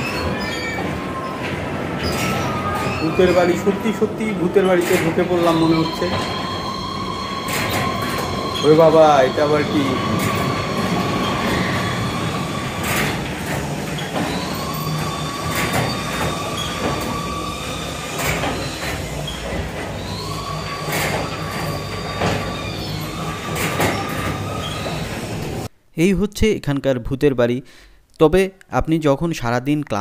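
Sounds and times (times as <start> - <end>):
high squealing tones: 0.0 - 25.7.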